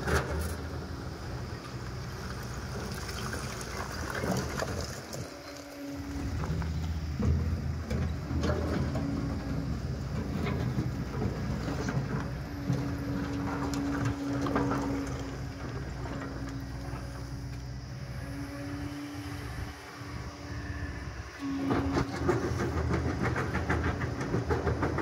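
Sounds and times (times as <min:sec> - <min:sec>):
excavator diesel engine running: 0:00.0 - 0:25.0
hydraulic whine: 0:00.0 - 0:25.0.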